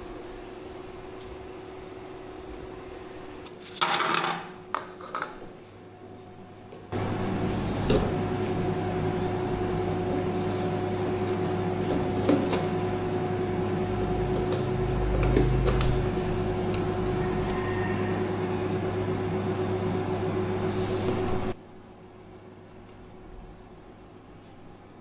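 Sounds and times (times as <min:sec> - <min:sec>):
electric appliance humming: 0:00.0 - 0:25.0.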